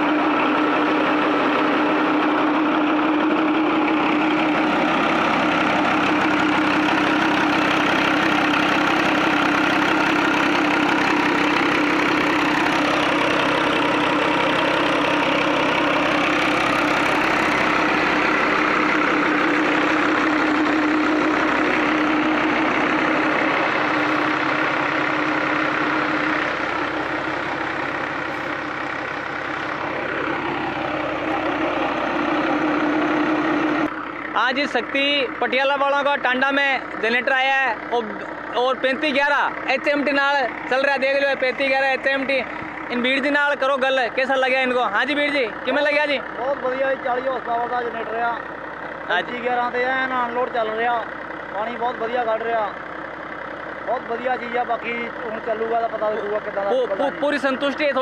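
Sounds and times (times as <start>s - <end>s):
generator hum: 0.0s - 58.0s
tractor diesel engine running: 0.0s - 58.0s.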